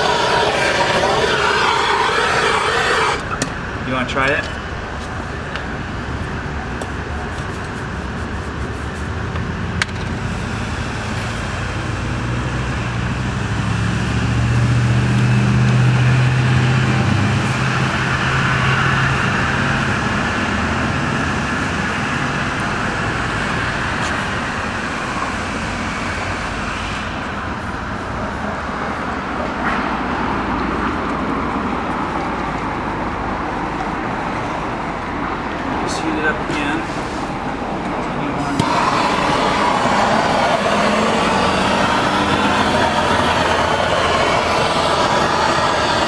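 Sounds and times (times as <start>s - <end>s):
road traffic noise: 0.0s - 46.0s
vehicle passing: 0.0s - 46.0s.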